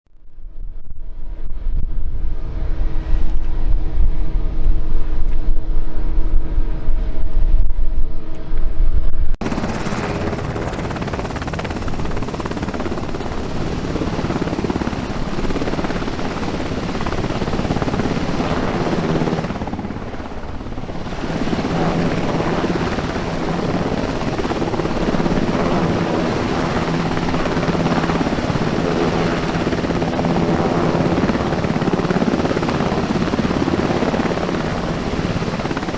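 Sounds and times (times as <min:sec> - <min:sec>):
aircraft engine noise: 0:00.2 - 0:35.9
wind buffeting microphone: 0:00.3 - 0:35.9.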